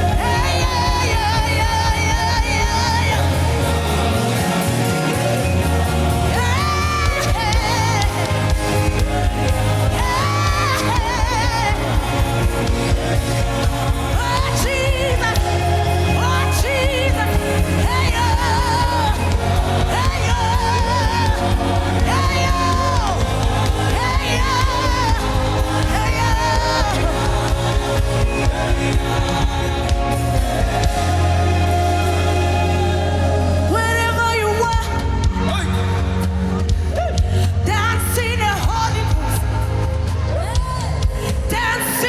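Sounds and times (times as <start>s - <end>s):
sustained chords: 0.0s - 34.7s
person singing with vibrato: 0.0s - 42.0s
steady bass: 0.0s - 42.0s.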